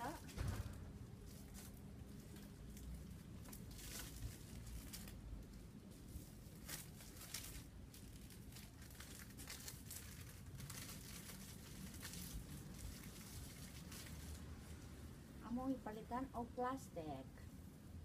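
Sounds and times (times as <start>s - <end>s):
faint crinkling and rustling: 0.0s - 16.3s.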